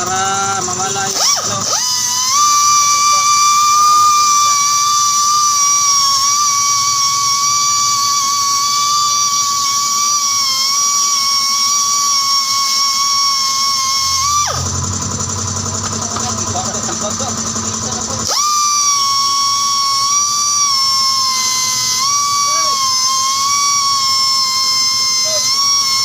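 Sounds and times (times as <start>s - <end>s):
rotary sanding tool whining: 0.0s - 26.0s.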